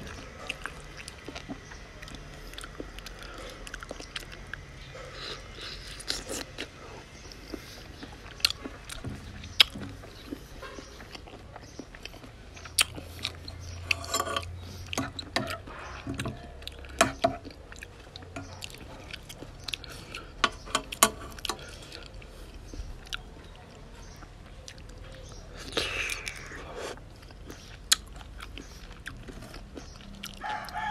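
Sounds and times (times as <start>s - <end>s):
person chewing: 0.0s - 23.5s, 24.2s - 30.9s.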